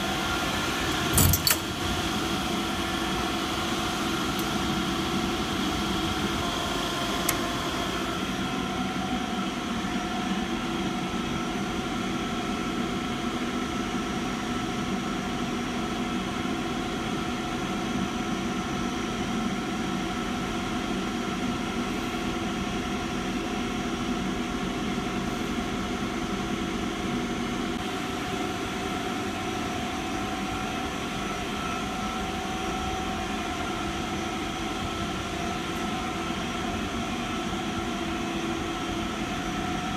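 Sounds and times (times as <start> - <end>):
air compressor humming: 0.0 - 14.5, 20.6 - 39.9.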